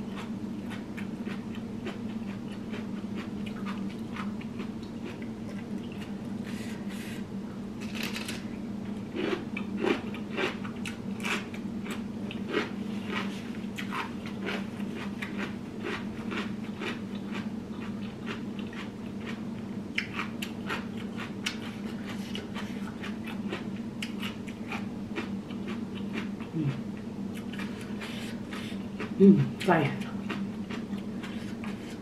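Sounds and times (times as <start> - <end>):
steady low hum: 0.0 - 32.0
person chewing: 0.1 - 7.2, 9.0 - 32.0.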